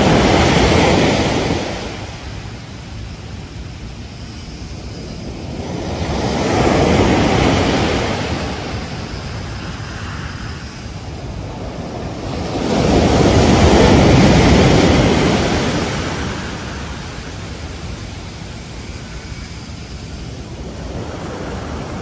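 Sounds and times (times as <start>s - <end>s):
steady surf hiss: 0.0s - 22.0s
waves washing in: 0.0s - 22.0s.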